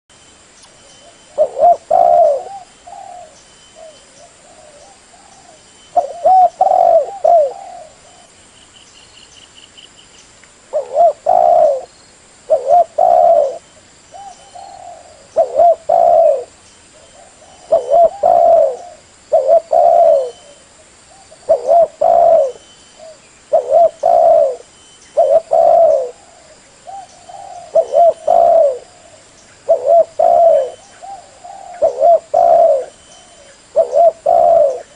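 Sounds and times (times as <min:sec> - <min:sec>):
dove cooing: 0:01.0 - 0:08.3, 0:10.7 - 0:11.9, 0:12.5 - 0:34.9.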